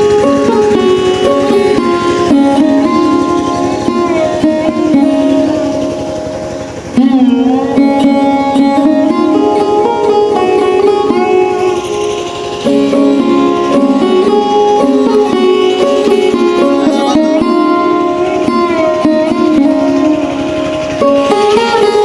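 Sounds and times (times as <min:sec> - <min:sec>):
plucked string melody: 0:00.0 - 0:22.0
steady drone: 0:00.0 - 0:22.0.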